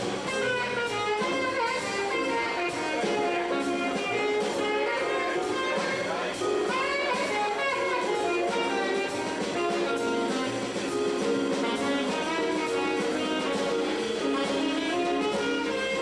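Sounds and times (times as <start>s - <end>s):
jazz band accompaniment: 0.0s - 16.0s
saxophone melody: 0.0s - 16.0s.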